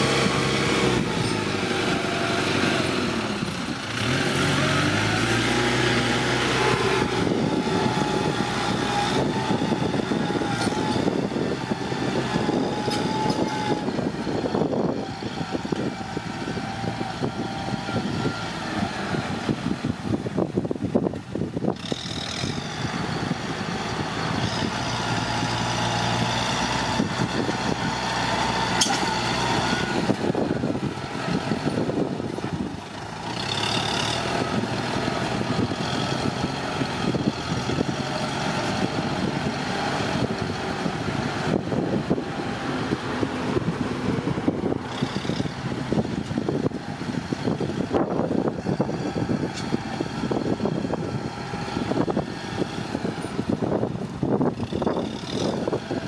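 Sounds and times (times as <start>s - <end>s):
dump truck engine running: 0.0s - 56.0s
tractor diesel engine: 0.0s - 56.0s.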